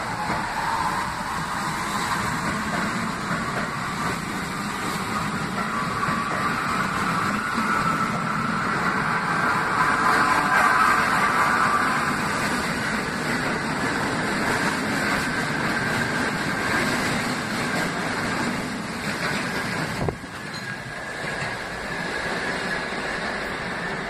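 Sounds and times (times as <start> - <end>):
subway train rumble and rattle: 0.0 - 24.0.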